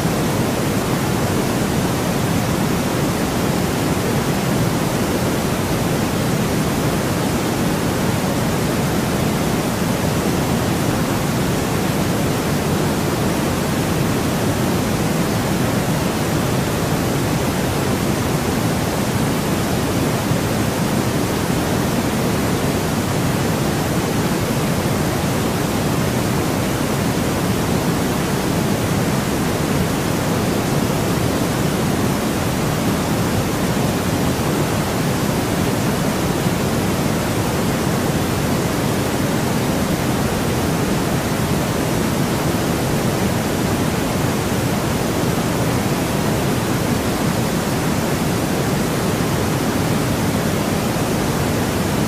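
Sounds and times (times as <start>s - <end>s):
steady white noise hiss: 0.0s - 52.0s.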